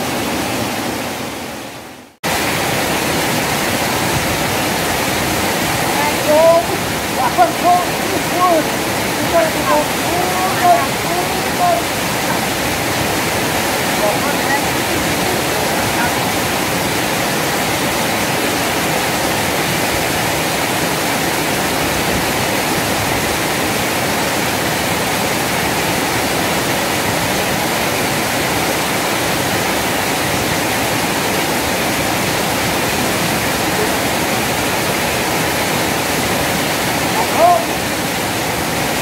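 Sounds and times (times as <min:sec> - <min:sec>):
water rushing over weir: 0:00.0 - 0:39.0.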